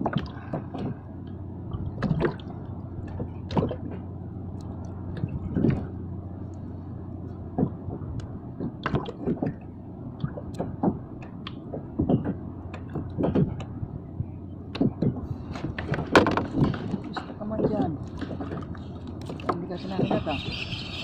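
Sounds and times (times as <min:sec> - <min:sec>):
steady low hum: 0:00.0 - 0:21.0
water lapping against a hull: 0:00.0 - 0:21.0.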